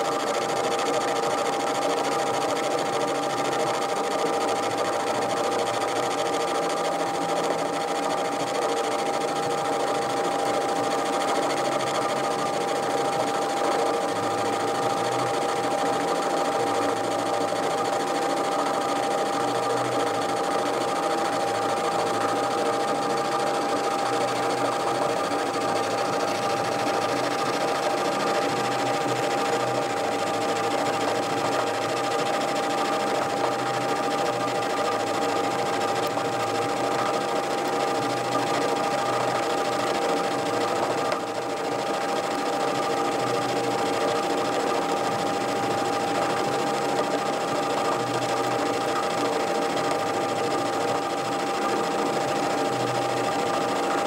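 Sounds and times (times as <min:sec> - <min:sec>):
metal lathe whining: 0:00.0 - 0:54.0.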